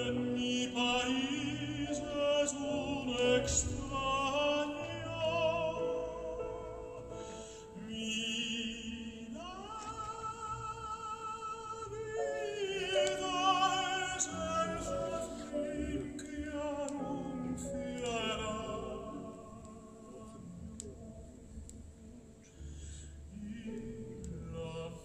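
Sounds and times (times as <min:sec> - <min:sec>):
opera singing over loudspeakers: 0:00.0 - 0:22.4, 0:23.3 - 0:25.0.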